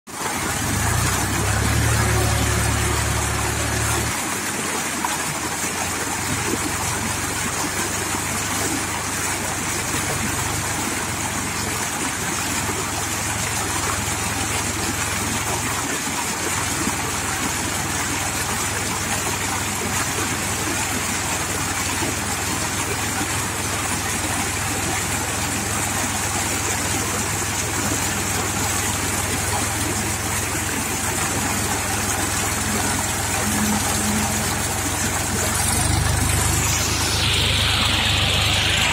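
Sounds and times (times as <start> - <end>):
tractor diesel engine idling: 0.3 - 4.2, 5.8 - 38.9.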